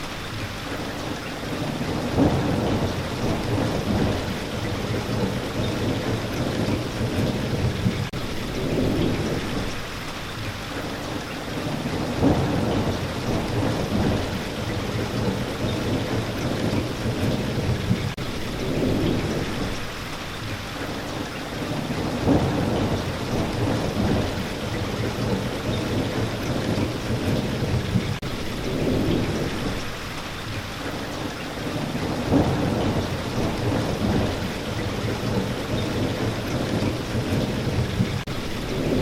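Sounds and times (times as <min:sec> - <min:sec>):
heavy rain falling: 0:00.0 - 0:39.0
thunder rumbling: 0:01.4 - 0:10.0, 0:11.6 - 0:20.0, 0:21.6 - 0:30.1, 0:31.0 - 0:39.0.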